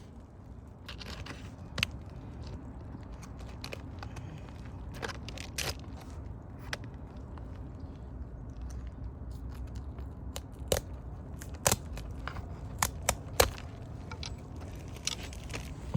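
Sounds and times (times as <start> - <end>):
crackles and scrapes on shingle roof: 0.0 - 15.9.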